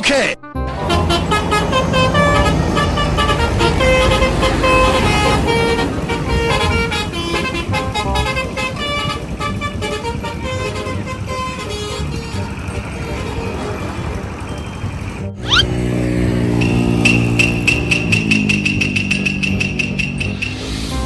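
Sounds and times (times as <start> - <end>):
bus engine rumble: 0.7 - 21.0.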